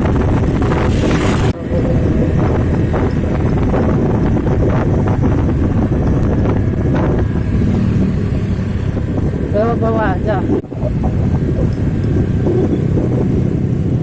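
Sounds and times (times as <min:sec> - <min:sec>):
trucks rumbling past: 0:00.0 - 0:14.0
wind buffeting microphone: 0:00.0 - 0:14.0.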